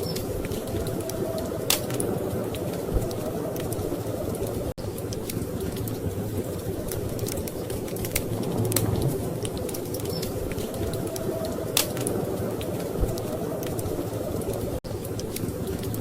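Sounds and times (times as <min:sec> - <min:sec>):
storm wind rumbling: 0:00.0 - 0:14.8
wood fire crackling and popping: 0:00.0 - 0:16.0.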